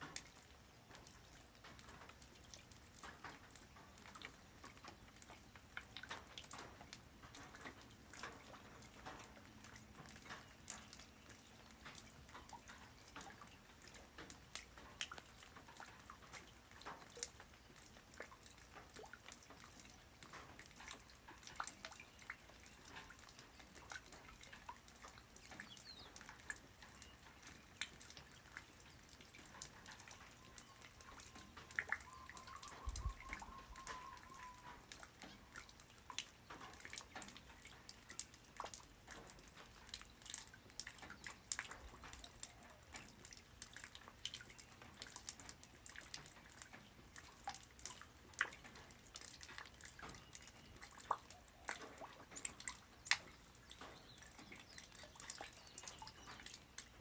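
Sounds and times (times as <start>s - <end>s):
light rain patter: 0.0s - 57.0s.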